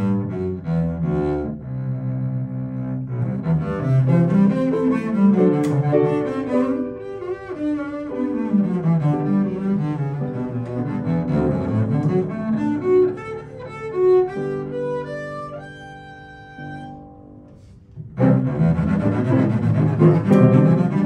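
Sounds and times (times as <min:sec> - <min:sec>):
bowed double bass: 0:00.0 - 0:21.0
piano accompaniment: 0:00.0 - 0:21.0.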